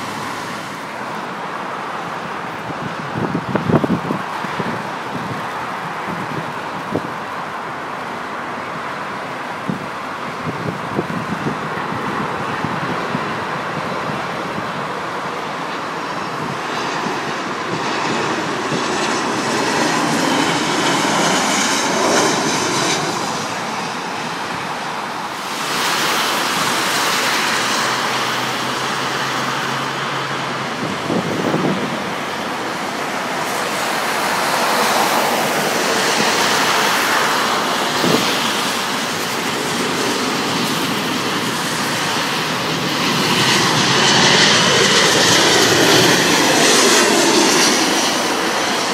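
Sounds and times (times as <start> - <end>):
vehicles passing: 0.0 - 48.9
wind on microphone: 2.3 - 7.3, 9.3 - 48.9.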